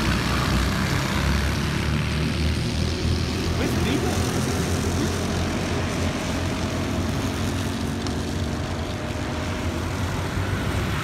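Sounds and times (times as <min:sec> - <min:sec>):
faint engine whine: 0:00.0 - 0:11.0
kart engines droning: 0:00.0 - 0:11.0.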